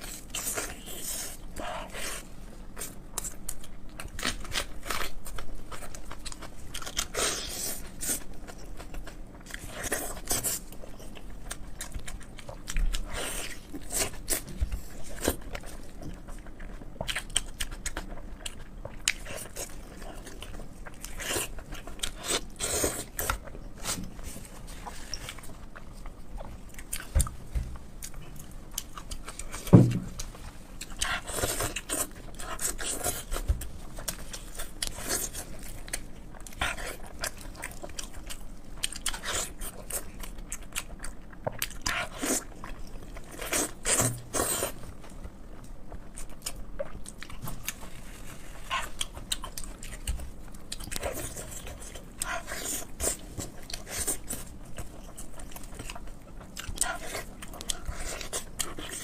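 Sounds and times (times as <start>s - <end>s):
wet chewing and lip-smacking: 0.0s - 59.0s.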